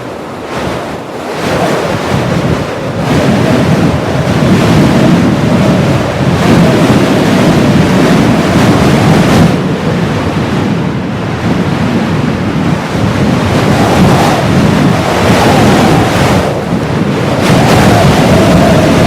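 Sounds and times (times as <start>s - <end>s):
blizzard wind gusting: 0.0s - 19.0s.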